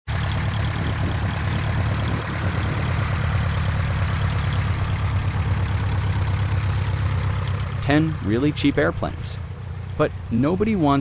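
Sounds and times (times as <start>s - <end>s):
engine running steadily: 0.1s - 11.0s.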